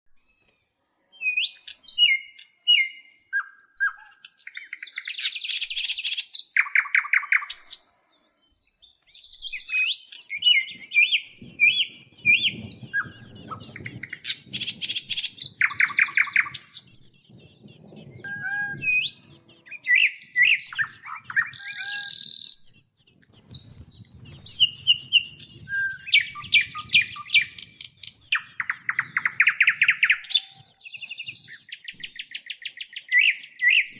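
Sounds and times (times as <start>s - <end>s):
songbirds chirping and trilling: 0.2s - 33.9s.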